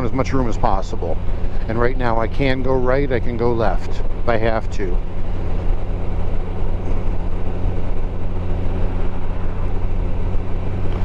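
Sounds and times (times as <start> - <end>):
motorcycle engine running: 0.0 - 11.0
road noise: 0.0 - 11.0
wind noise: 0.0 - 11.0.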